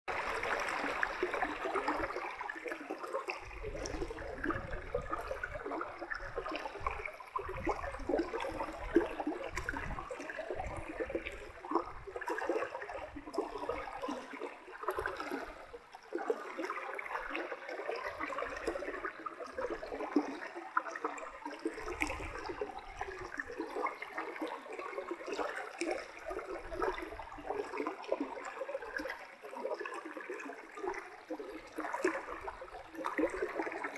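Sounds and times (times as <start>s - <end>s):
stream babbling: 0.1s - 33.9s.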